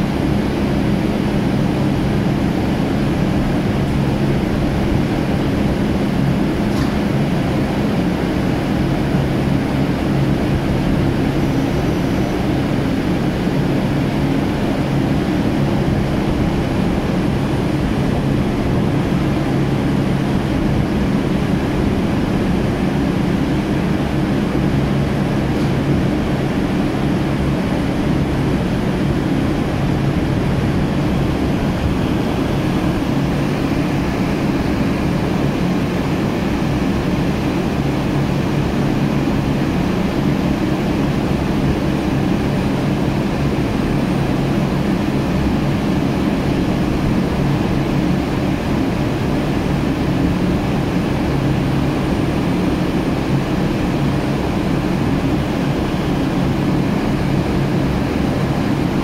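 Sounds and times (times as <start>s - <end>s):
heavy machinery droning: 0.0s - 59.0s.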